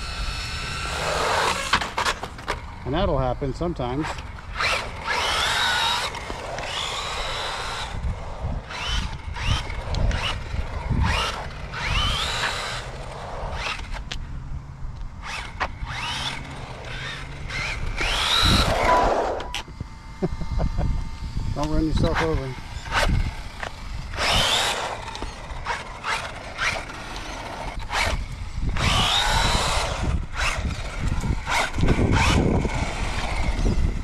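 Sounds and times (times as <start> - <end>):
tires rolling on asphalt: 0.0 - 19.8, 21.1 - 34.0
electric motor whining: 0.0 - 34.0.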